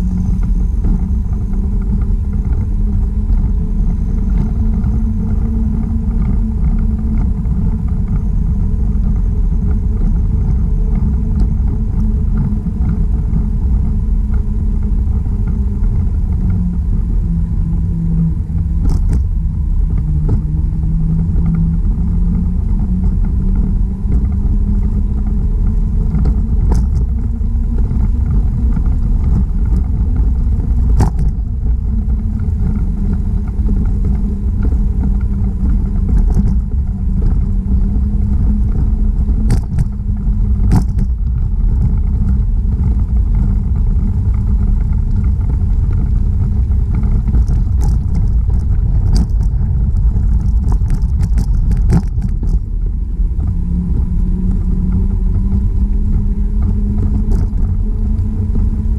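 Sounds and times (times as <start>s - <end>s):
low wavering hum: 0.0s - 58.9s
tyre noise on pavement: 0.0s - 58.9s
wind buffeting microphone: 0.0s - 58.9s.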